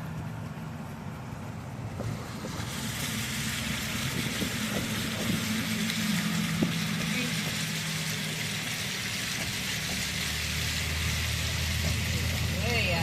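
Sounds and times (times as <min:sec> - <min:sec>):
car engine humming: 0:00.0 - 0:13.0
wind hiss: 0:00.0 - 0:13.0.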